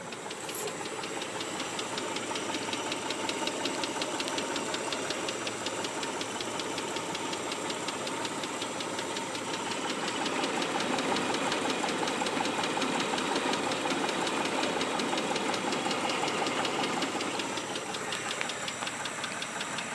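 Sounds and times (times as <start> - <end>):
engine running with ticking knock: 0.0 - 19.9.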